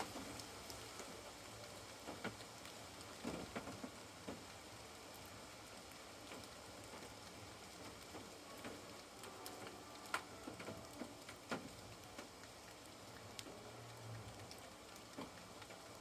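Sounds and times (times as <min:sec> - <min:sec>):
faint hiss of rain: 0:00.0 - 0:16.0
raindrops ticking and tapping: 0:00.0 - 0:16.0.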